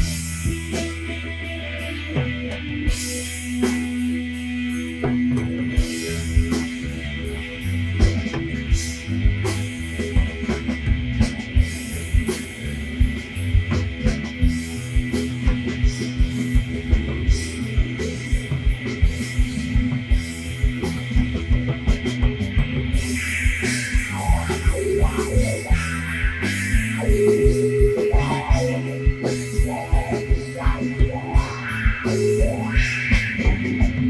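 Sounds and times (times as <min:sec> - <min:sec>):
rock music with guitar: 0:00.0 - 0:34.0
steady drum beat: 0:00.0 - 0:34.0.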